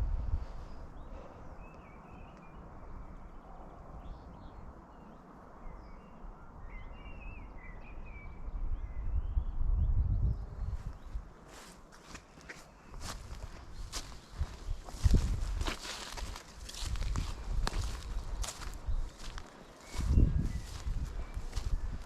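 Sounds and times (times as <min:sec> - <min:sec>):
steady outdoor hiss: 0:00.0 - 0:08.6, 0:10.4 - 0:22.0
birds chirping and singing: 0:00.6 - 0:22.0.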